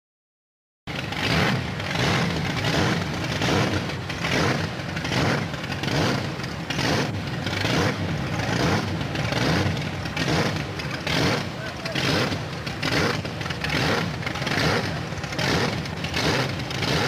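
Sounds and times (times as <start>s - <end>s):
low engine rumble: 0.9s - 17.0s
monster truck engine revving: 0.9s - 17.0s.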